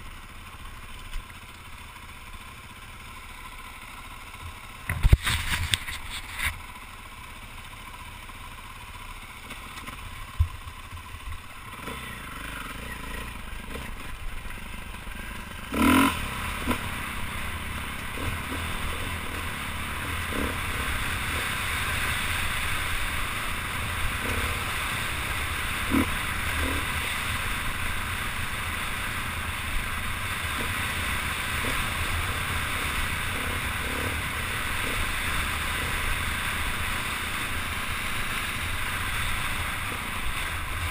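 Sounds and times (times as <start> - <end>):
dirt bike engine: 0.0 - 40.9.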